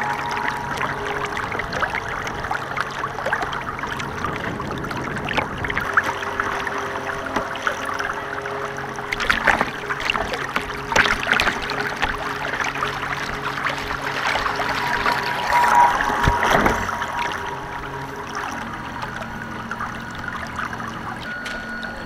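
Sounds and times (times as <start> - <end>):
faint motor hum: 0.0 - 22.0
water splashing and churning: 0.0 - 22.0.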